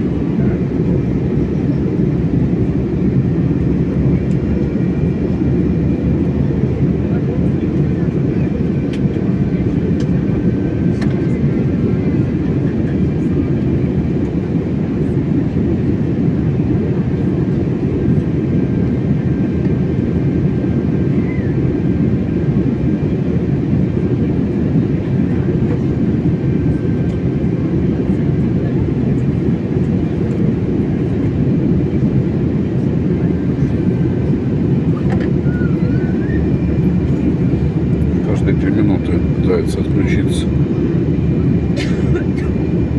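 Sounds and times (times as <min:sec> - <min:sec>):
airliner engines rumbling: 0:00.0 - 0:42.9.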